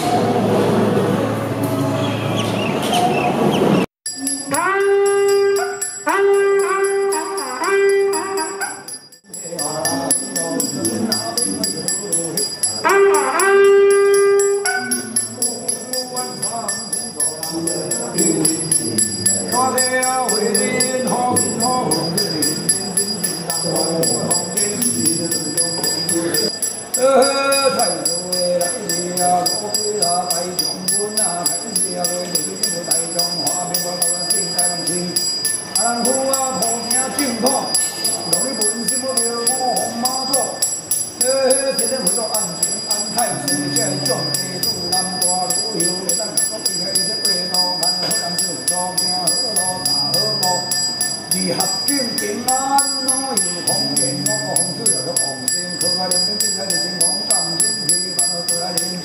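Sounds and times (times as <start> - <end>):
instrumental music with bell jingle: 4.1 - 59.0.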